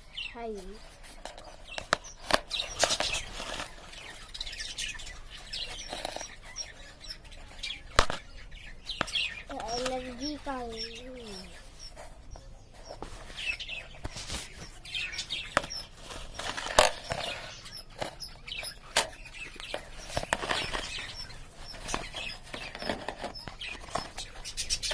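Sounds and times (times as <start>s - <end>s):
wings fluttering: 0.4s - 24.9s
budgerigars chirping: 1.4s - 24.9s.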